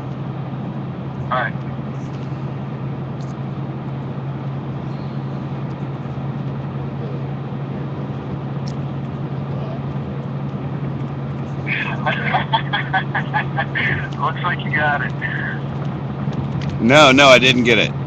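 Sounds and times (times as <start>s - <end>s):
low machine drone: 0.0s - 18.0s.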